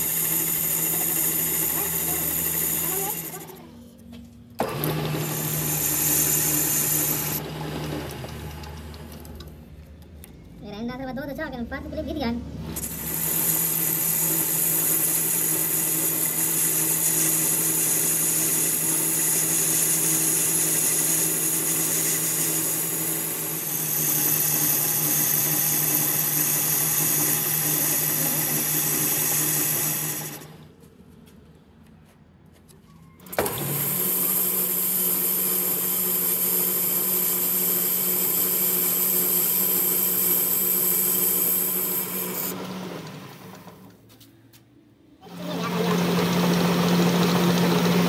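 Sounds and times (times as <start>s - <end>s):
metal lathe running: 0.0s - 3.6s, 4.6s - 9.3s, 12.6s - 30.6s, 33.3s - 43.7s, 45.3s - 48.0s.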